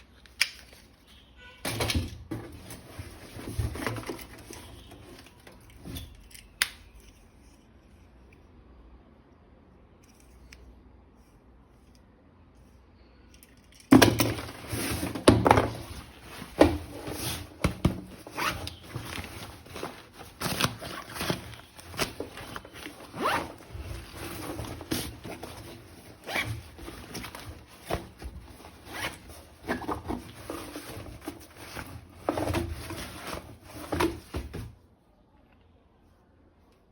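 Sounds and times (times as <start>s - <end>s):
objects being handled: 0.0s - 8.4s, 9.8s - 34.8s.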